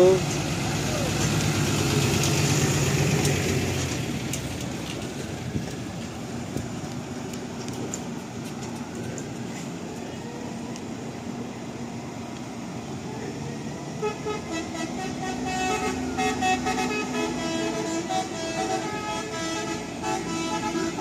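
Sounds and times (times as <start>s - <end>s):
diesel truck engine running: 0.0s - 21.0s
rumble of idling trucks and cars: 0.0s - 21.0s.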